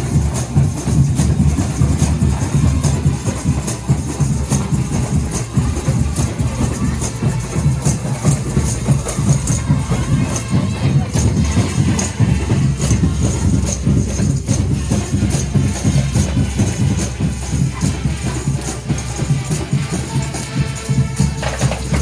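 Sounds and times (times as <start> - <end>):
street band playing: 0.0 - 22.0
tambourine jingling: 0.0 - 22.0.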